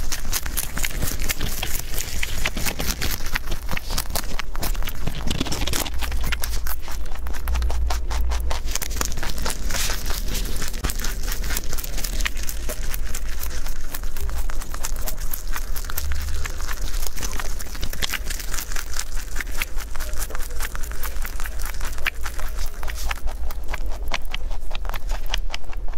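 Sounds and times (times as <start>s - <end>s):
rabbit chewing leaves: 0.0s - 25.9s.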